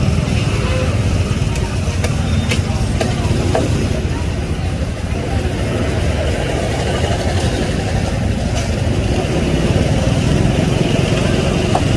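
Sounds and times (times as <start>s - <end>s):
low engine rumble: 0.0s - 11.9s.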